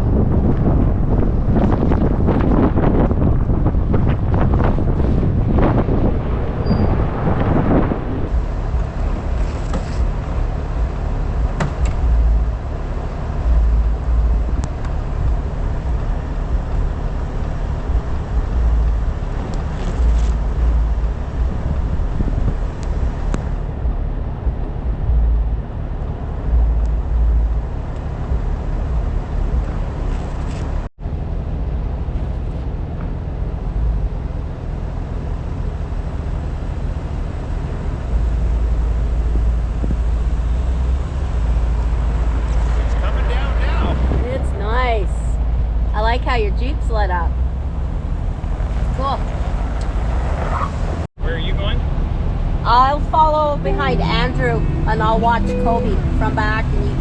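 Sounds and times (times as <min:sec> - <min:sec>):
engine rumbling: 0:00.0 - 0:57.0
wind noise: 0:00.0 - 0:57.0.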